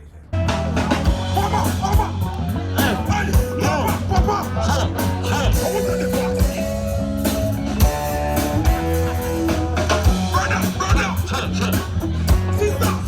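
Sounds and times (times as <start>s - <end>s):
band music: 0.3s - 13.0s
guitar melody: 0.4s - 13.0s.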